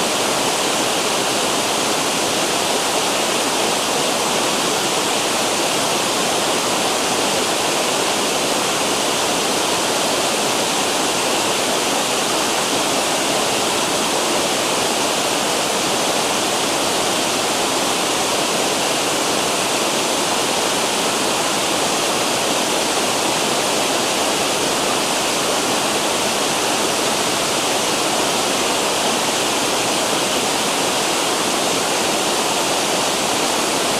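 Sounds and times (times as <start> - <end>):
water rushing over waterfalls: 0.0 - 33.9.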